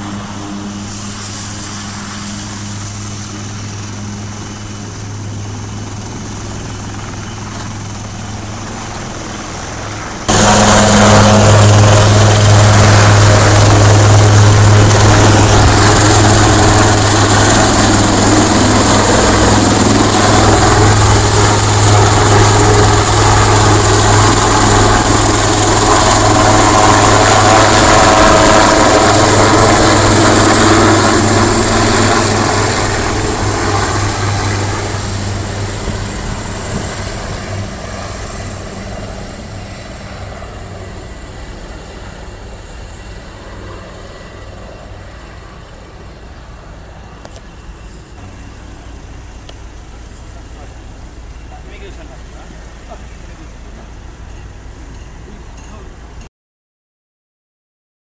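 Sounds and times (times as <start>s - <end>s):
helicopter rotor and engines: 0.0s - 56.3s.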